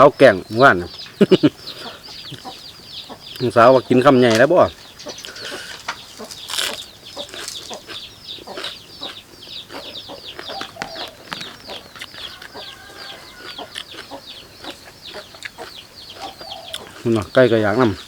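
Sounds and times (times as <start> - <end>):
chickens calling: 0.0 - 18.0
crunchy chewing crackles: 1.0 - 18.0.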